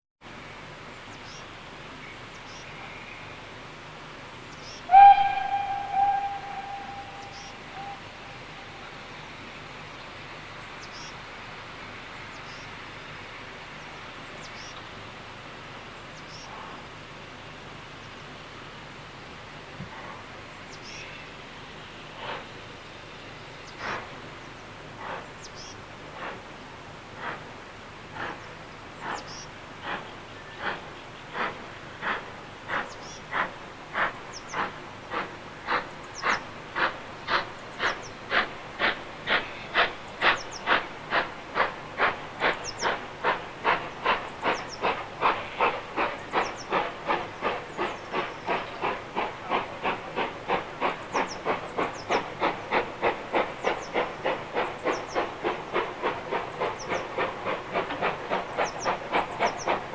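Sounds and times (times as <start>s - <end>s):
steam locomotive chuffing: 0.6s - 59.9s.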